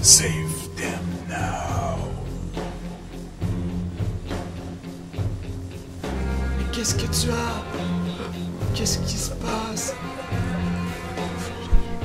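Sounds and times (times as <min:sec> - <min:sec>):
low guitar chords: 0:00.0 - 0:12.0.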